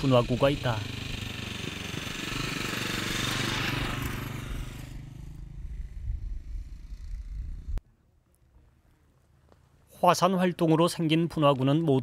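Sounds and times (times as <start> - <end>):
motorcycle passing on gravel: 0.0 - 9.9.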